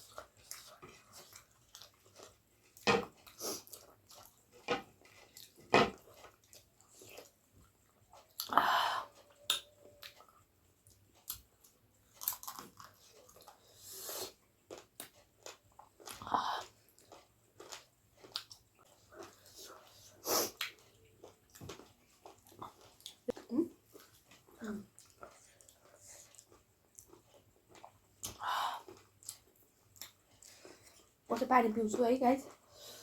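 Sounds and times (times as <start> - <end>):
person chewing and biting: 0.0 - 8.6, 9.4 - 31.1.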